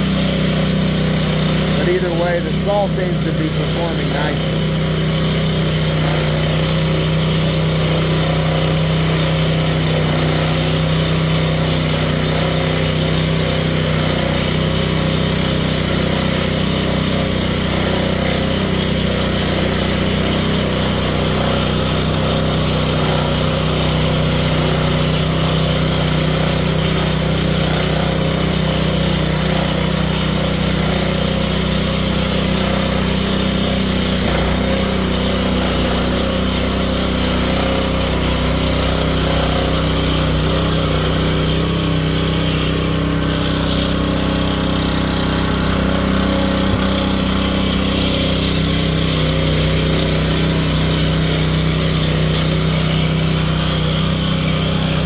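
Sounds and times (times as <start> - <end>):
concrete saw cutting concrete: 0.0 - 55.0.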